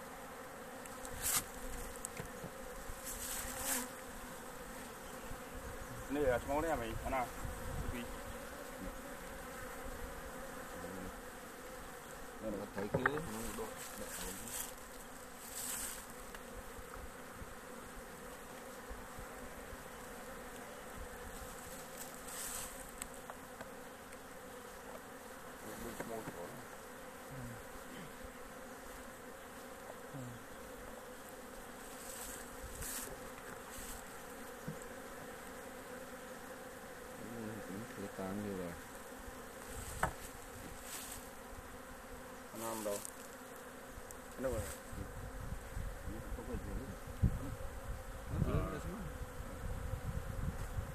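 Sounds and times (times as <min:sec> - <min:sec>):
honeybees buzzing: 0:00.0 - 0:50.9
knocks and scrapes on hive: 0:00.0 - 0:50.9.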